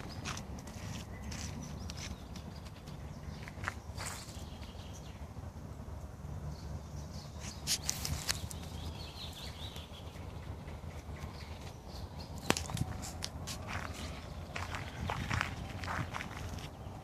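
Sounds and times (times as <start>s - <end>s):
wind rumble: 0.0s - 17.0s.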